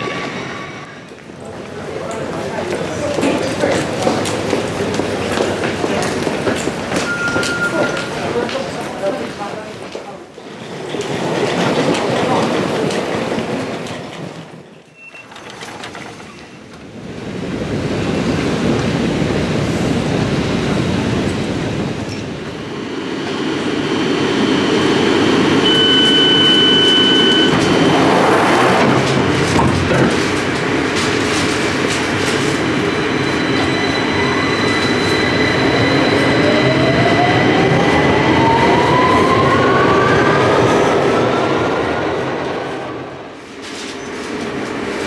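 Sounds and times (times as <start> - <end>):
underground train rail and wheel noise: 0.0 - 45.0.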